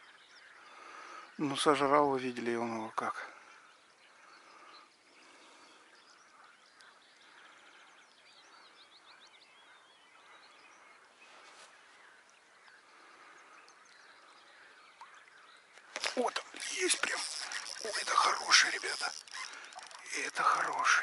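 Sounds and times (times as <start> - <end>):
faint birdsong chirping: 0.0 - 21.0
low outdoor hiss: 0.0 - 21.0.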